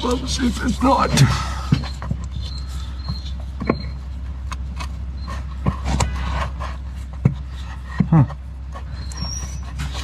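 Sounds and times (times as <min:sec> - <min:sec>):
parts clicking and knocking: 0:00.0 - 0:10.0
steady low hum: 0:00.0 - 0:10.0.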